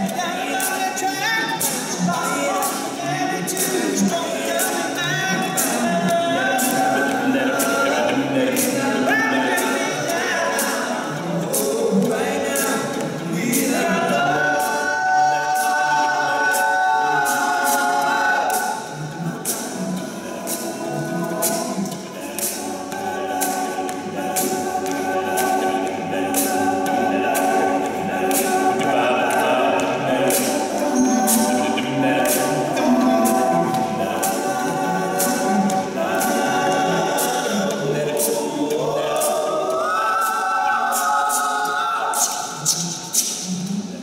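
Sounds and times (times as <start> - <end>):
a cappella vocal harmonies: 0.0 - 44.0
beatboxed vocal percussion: 0.0 - 44.0.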